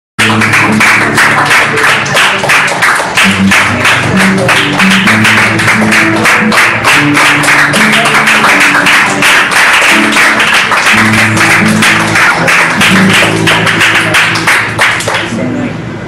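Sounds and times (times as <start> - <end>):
held bass notes: 0.2 - 2.5, 3.1 - 16.0.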